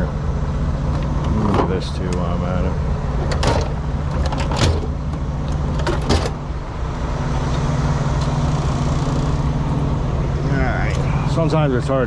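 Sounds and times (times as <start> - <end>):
idling engine drone: 0.0 - 12.0.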